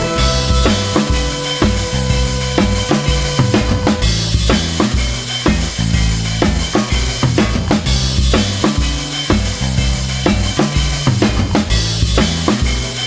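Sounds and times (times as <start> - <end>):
bass line: 0.0 - 13.0
rock drum beat: 0.0 - 13.0.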